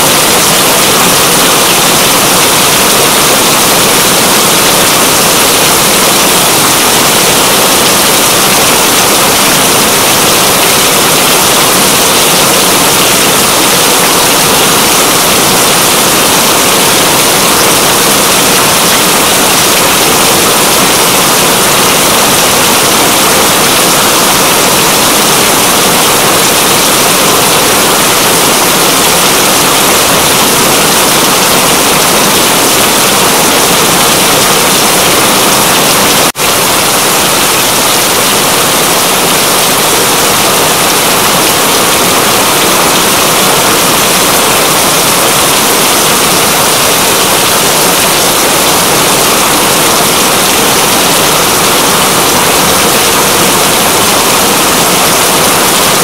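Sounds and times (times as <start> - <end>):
loud rain: 0.0 - 56.0.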